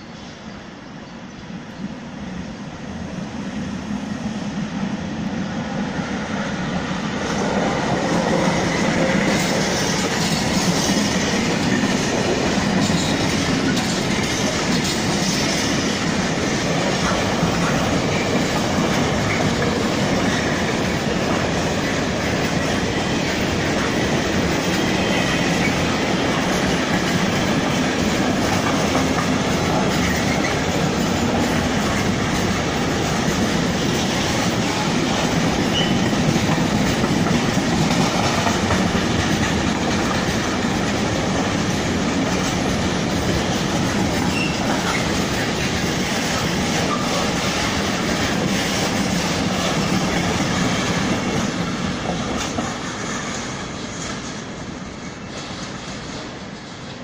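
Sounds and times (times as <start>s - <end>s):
freight train passing: 0.0s - 57.0s.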